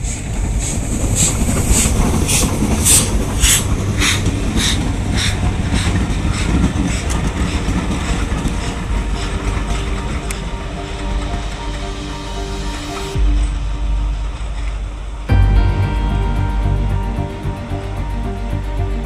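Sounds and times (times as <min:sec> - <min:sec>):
low rumble: 0:00.0 - 0:19.0
steam locomotive chuffing: 0:00.0 - 0:19.0.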